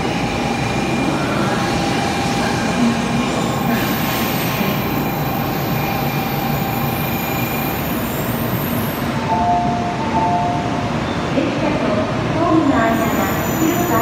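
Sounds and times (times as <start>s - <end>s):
train wheel and running noise: 0.0s - 14.0s.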